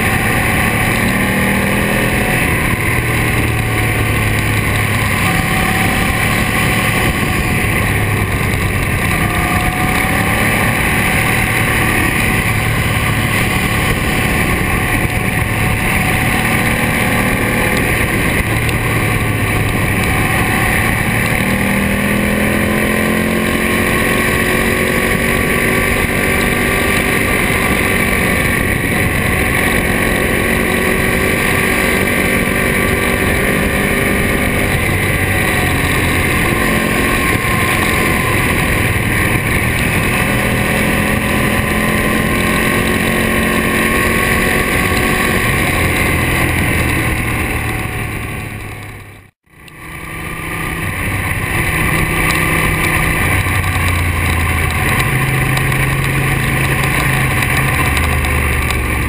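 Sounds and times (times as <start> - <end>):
wind on microphone: 0.0 - 49.3
motorcycle engine revving: 0.0 - 59.0.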